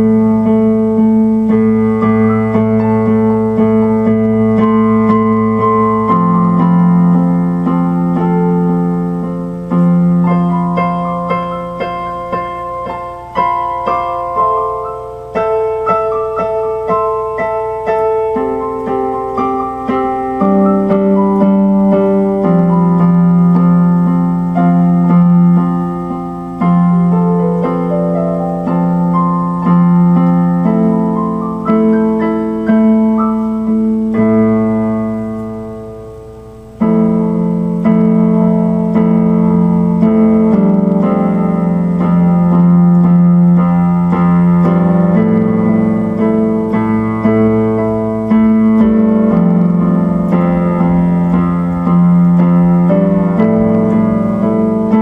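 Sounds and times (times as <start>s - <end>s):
electric piano chords: 0.0s - 55.0s.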